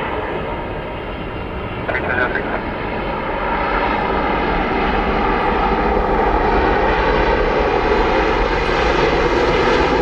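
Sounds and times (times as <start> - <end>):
airliner engines running: 0.0 - 10.0.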